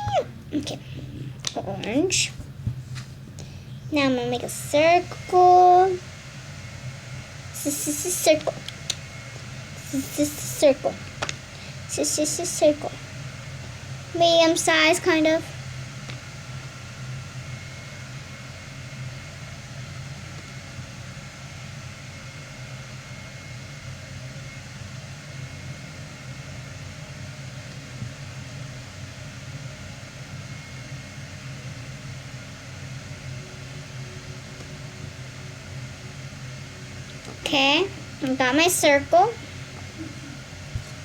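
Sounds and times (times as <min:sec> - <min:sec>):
low hum with hiss: 0:00.0 - 0:41.0.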